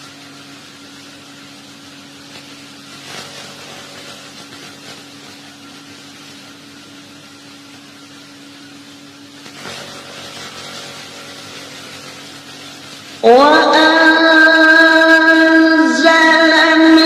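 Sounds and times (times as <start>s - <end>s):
electrical hum and hiss: 0.0s - 17.0s.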